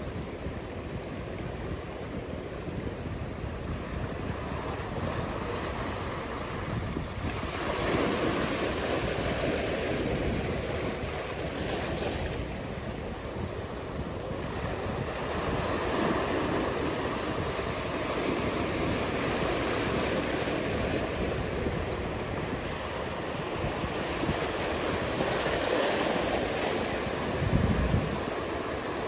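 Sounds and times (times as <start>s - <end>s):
ocean waves breaking: 0.0s - 29.0s.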